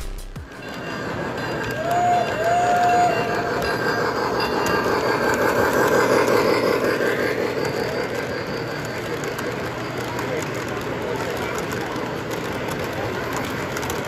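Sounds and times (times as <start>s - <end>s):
model train wheels rumbling: 0.5s - 14.0s.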